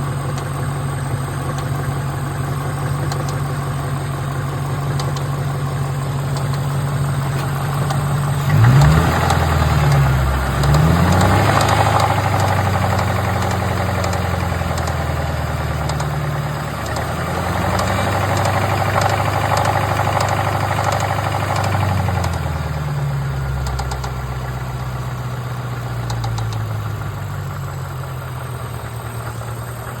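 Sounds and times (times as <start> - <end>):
engine idling and revving: 0.0 - 30.0.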